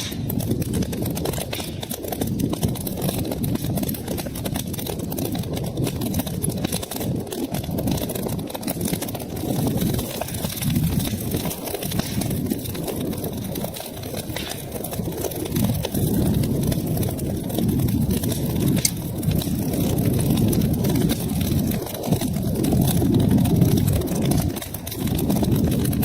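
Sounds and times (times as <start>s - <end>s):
fire crackles and pops: 0.0s - 26.0s
low rumble of flames: 0.0s - 26.0s.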